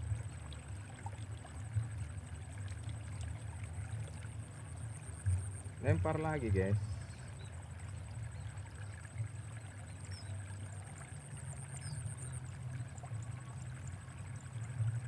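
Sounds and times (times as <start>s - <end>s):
faint high insect-like whine: 0.0s - 15.0s.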